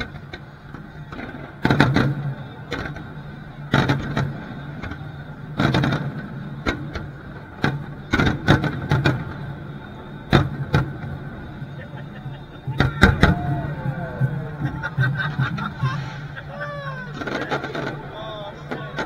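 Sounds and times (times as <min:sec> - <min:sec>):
steady low hum: 0:00.0 - 0:19.0
fireworks bursting: 0:03.5 - 0:19.0.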